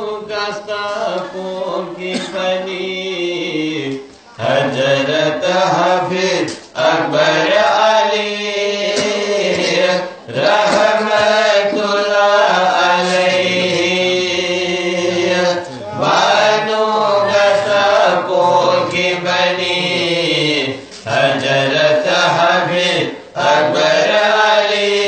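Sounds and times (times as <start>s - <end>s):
men singing devotional song: 0.0s - 25.0s.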